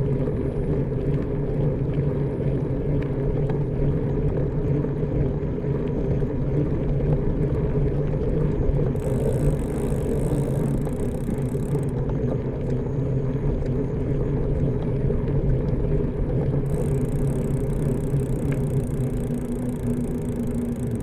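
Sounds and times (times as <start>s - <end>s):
bicycle rumble on road: 0.0s - 21.0s.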